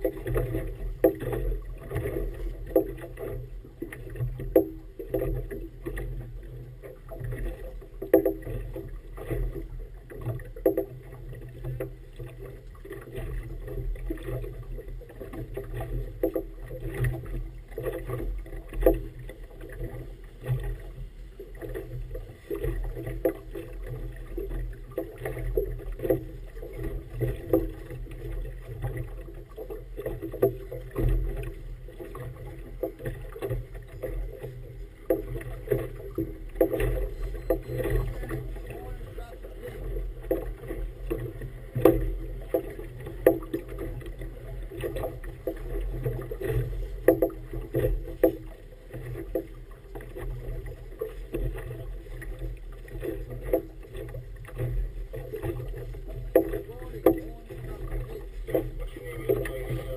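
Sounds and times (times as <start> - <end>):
waves lapping against boat hull: 0.0 - 59.9.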